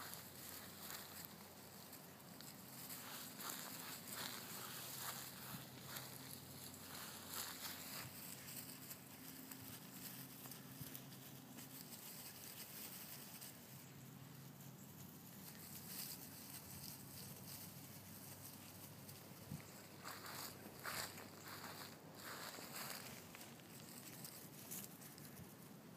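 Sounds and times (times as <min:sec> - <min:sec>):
footsteps on grass: 0:00.0 - 0:13.8, 0:15.0 - 0:25.2.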